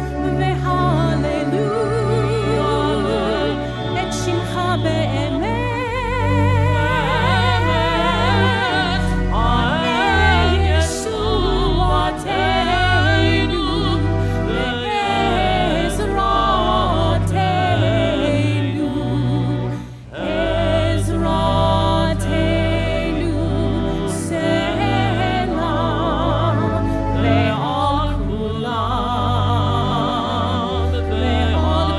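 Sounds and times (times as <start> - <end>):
person singing with vibrato: 0.0 - 31.9
sustained low accompaniment: 0.0 - 31.9.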